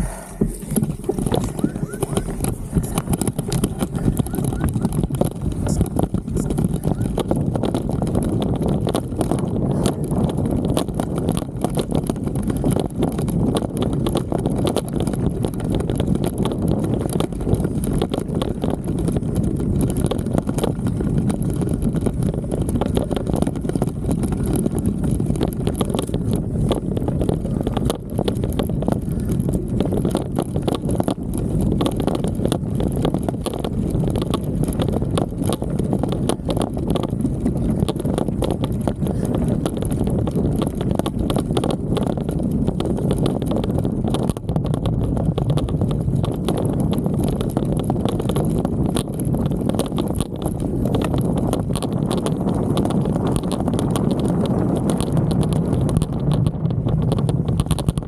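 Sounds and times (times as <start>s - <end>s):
camera rattling in a mount: 0.0s - 58.0s
steady rumble: 0.0s - 58.0s.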